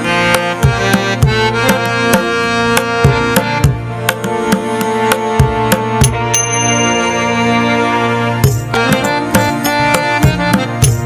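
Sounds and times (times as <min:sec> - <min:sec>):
steady drum beat: 0:00.0 - 0:06.8, 0:08.4 - 0:11.0
sustained melodic tones: 0:00.0 - 0:11.0.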